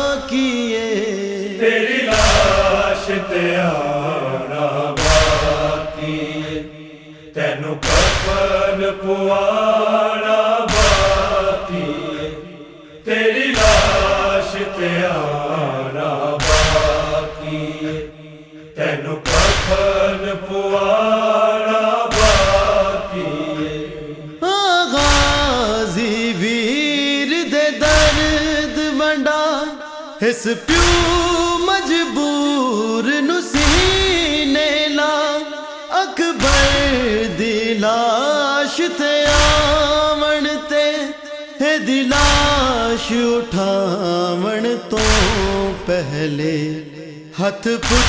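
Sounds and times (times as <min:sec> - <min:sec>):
men chanting a lament: 0:00.0 - 0:48.0.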